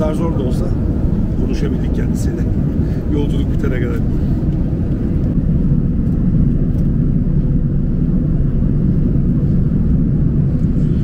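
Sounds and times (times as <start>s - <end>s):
air rushing past fuselage: 0.0s - 11.0s
airplane cabin engine rumble: 0.0s - 11.0s.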